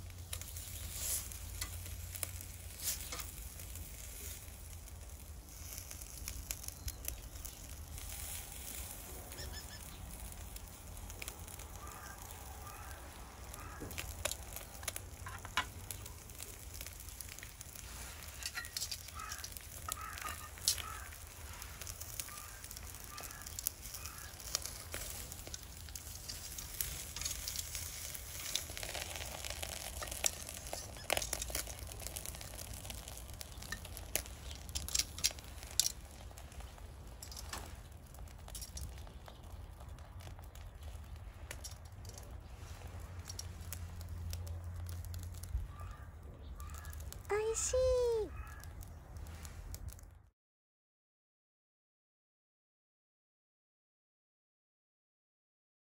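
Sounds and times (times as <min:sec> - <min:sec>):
fish sizzling on a grill: 0:00.0 - 0:50.0.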